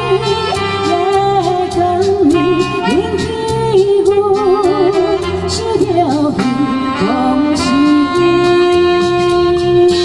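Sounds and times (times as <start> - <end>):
keyboard backing track with beat: 0.0 - 10.0
saxophone: 0.0 - 10.0
woman singing: 0.0 - 10.0.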